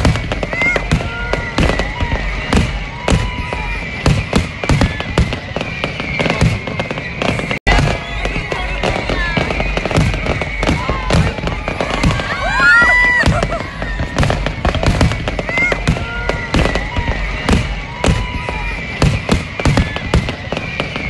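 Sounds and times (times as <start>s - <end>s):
fireworks bangs and crackles: 0.0s - 21.0s
fireworks whistling: 0.0s - 21.0s.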